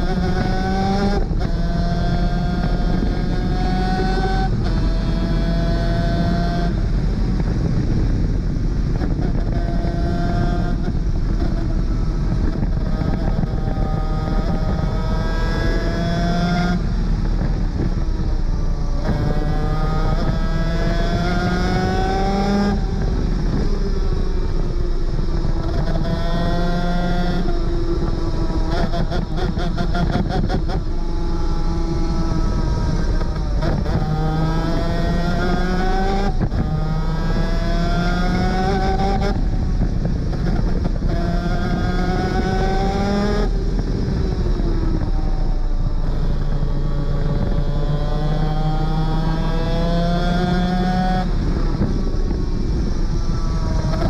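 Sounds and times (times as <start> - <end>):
engine crackling: 0.0 - 54.0
two-stroke kart engine racing: 0.0 - 54.0.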